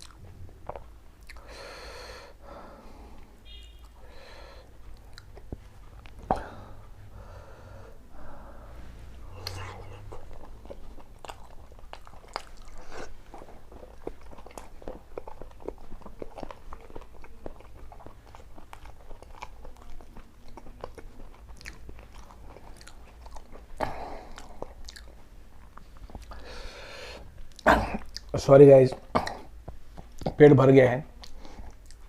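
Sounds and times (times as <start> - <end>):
person chewing food: 0.0 - 30.4, 31.1 - 32.0.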